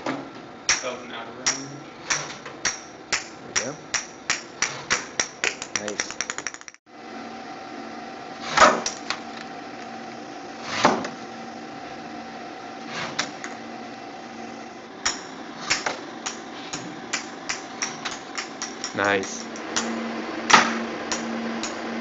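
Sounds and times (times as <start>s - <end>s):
hum of lab equipment: 0.0s - 22.0s.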